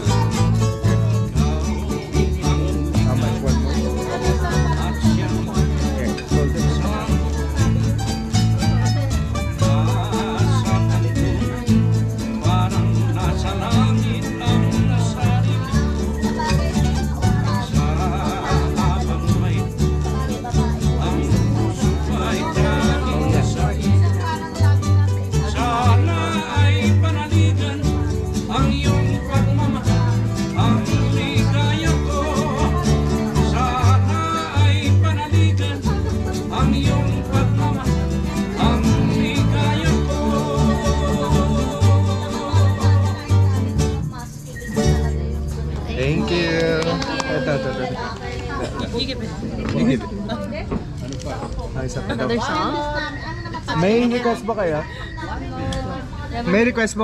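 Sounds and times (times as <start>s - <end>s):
person singing: 0.0s - 45.3s, 46.0s - 48.1s
bass notes: 0.0s - 48.2s
plucked guitar: 0.0s - 57.0s.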